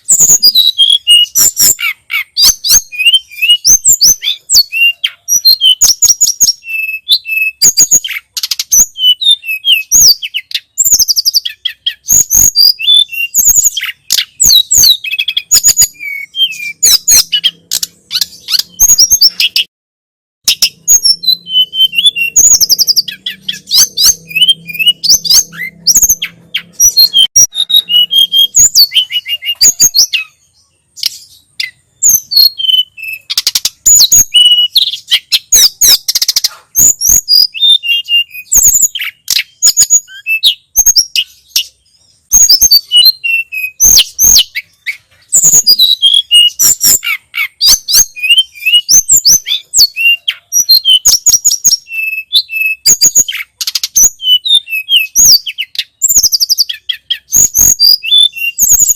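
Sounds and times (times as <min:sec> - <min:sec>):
songbird trilling and whistling: 0:00.0 - 0:19.7, 0:20.4 - 0:58.9.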